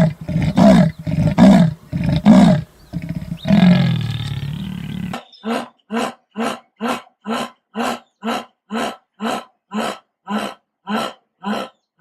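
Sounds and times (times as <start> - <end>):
big cat rasping grunts: 0.0 - 11.8.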